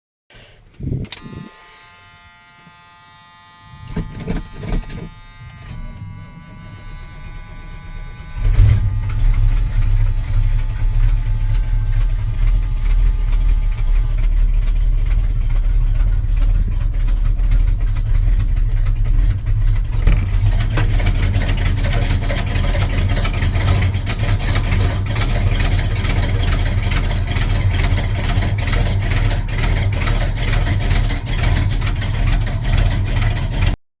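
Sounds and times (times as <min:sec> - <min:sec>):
starter cranking: 0:00.7 - 0:01.5, 0:03.8 - 0:33.8
engine rough idling: 0:03.0 - 0:33.8.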